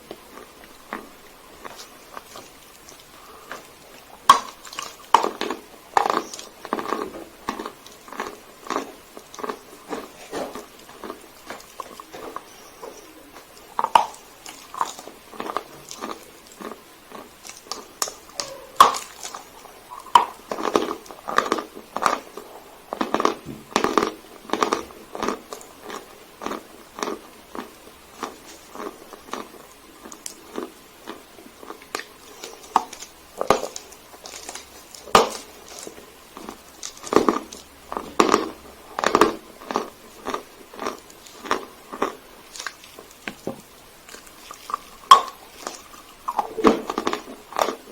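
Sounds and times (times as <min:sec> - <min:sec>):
chalk being chewed: 0:00.0 - 0:43.4, 0:44.0 - 0:47.9.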